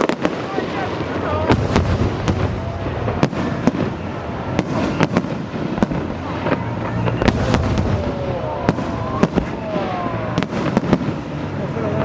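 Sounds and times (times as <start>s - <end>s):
continuous rumble and crackle: 0.0s - 12.0s
fireworks bangs and cracks: 0.0s - 12.0s.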